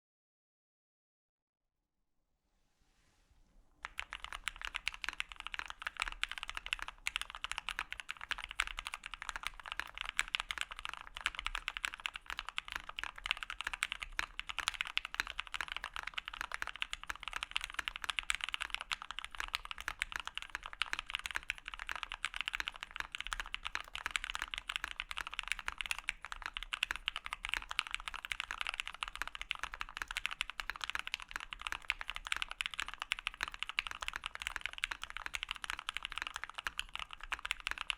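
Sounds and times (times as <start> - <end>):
mechanical keyboard typing: 3.8 - 37.9.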